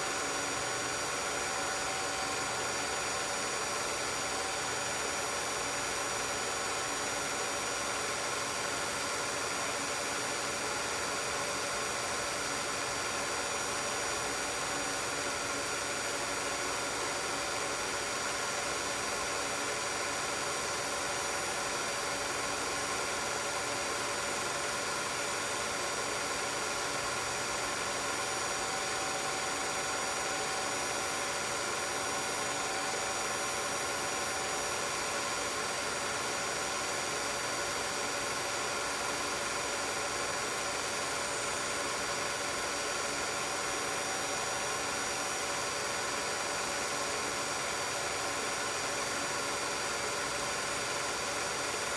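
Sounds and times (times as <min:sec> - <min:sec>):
film projector whirring: 0:00.0 - 0:51.9.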